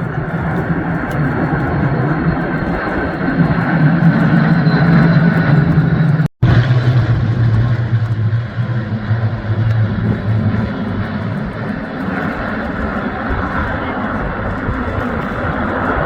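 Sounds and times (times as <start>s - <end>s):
piston aircraft engines droning: 0.0s - 16.0s.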